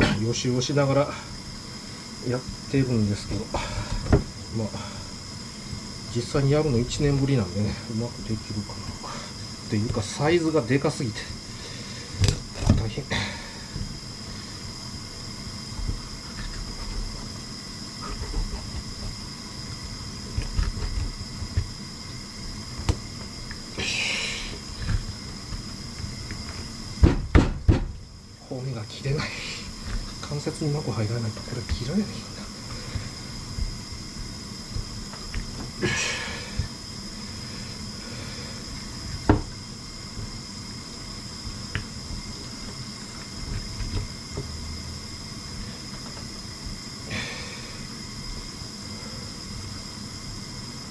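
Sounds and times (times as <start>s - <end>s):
steady hum with high whine: 0.0s - 50.9s.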